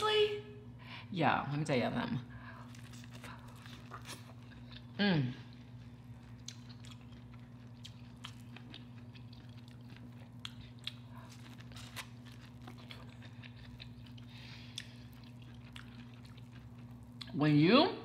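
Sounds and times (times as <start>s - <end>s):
steady low hum: 0.0s - 18.0s
chewing corn on the cob: 2.6s - 17.4s.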